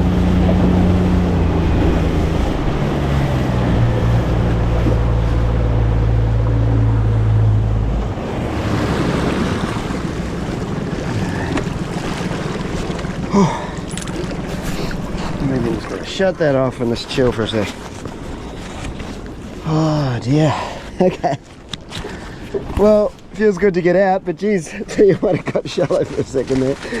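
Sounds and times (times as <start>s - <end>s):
outboard motor running: 0.0s - 23.6s
water wash: 0.0s - 24.0s, 24.7s - 27.0s.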